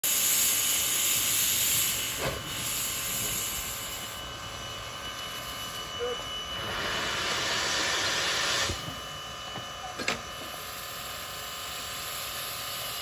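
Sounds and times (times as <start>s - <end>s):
steam locomotive hissing steam: 0.0s - 13.0s.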